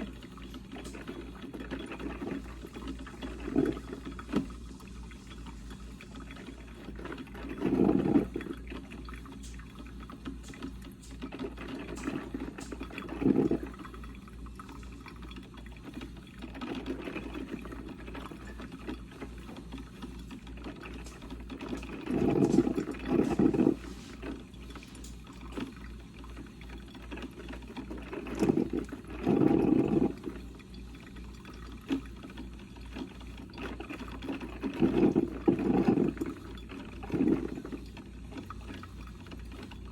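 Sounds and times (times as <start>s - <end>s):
low bubbling: 0.0s - 26.6s, 27.3s - 31.9s, 33.9s - 39.2s
percolator gurgling spurts: 0.0s - 39.9s.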